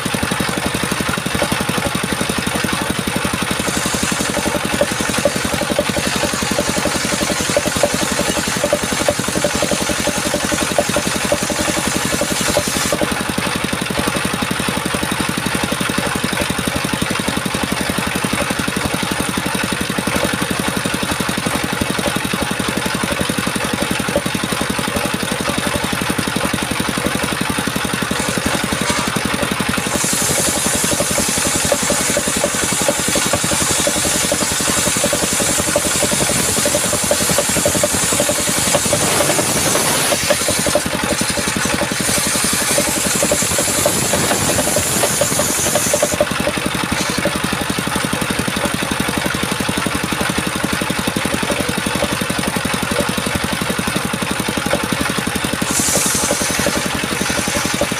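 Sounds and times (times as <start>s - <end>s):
power saw running: 0.0s - 57.9s.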